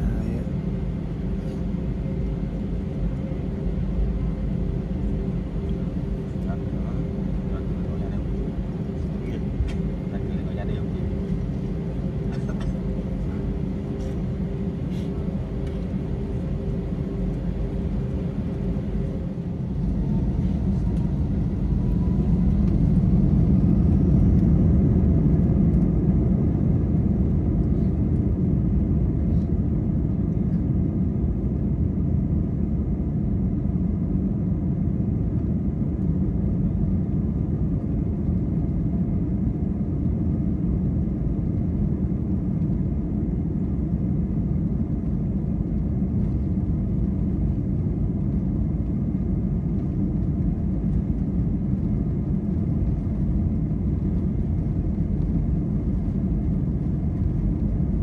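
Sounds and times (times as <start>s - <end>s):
jet engines inside aircraft cabin: 0.0s - 58.0s.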